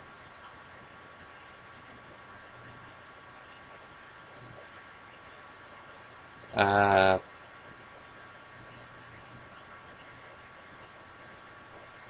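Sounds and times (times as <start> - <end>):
faint microphone hiss: 0.0 - 12.0.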